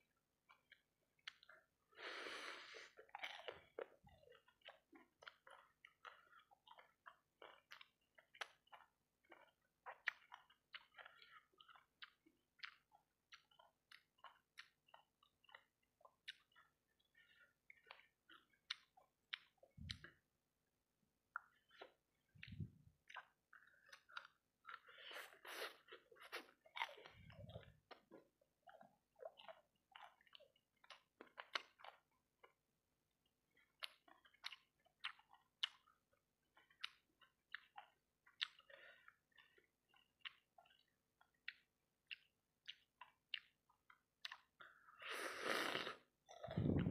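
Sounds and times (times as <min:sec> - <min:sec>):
wet chewing clicks and smacks: 0:00.0 - 0:01.8, 0:02.9 - 0:20.4, 0:21.2 - 0:45.0, 0:46.0 - 0:46.9.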